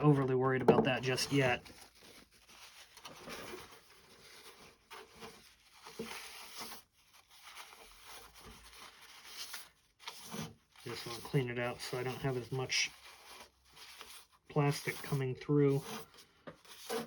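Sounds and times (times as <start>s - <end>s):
plastic scraping and rubbing: 0.0s - 17.0s.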